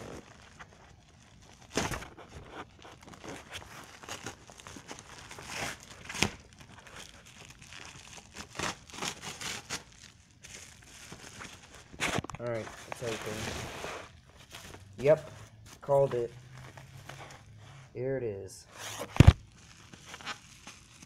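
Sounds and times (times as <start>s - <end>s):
package wrapping tearing and crinkling: 0.0s - 15.2s, 18.8s - 21.0s.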